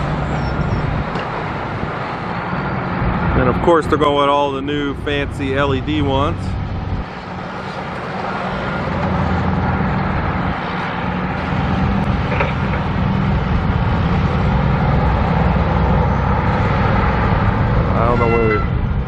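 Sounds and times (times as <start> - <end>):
heavy diesel engine droning: 0.0 - 19.0
road traffic rushing: 0.0 - 19.0.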